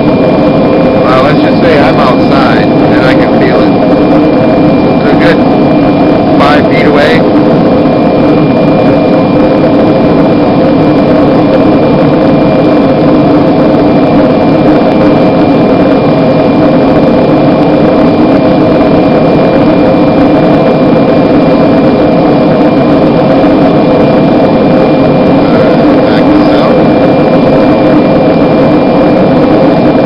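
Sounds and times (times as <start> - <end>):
gas forge burner roaring: 0.0 - 30.0.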